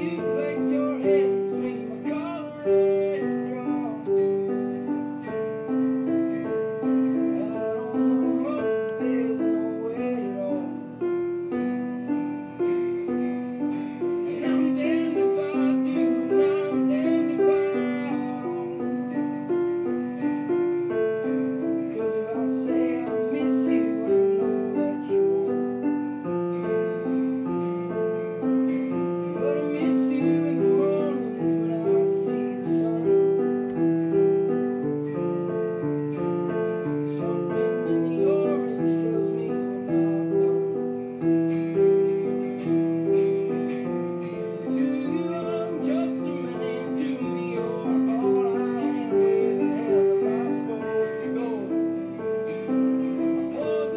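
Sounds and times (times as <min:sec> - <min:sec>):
piano playing held notes: 0:00.0 - 0:53.9.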